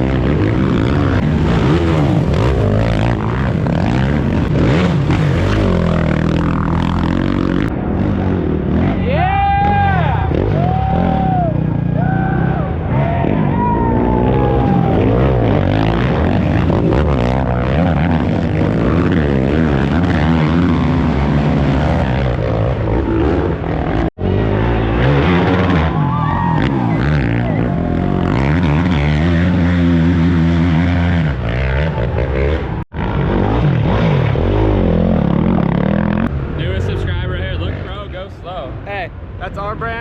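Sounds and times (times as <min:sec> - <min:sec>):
atv engines revving: 0:00.0 - 0:40.0.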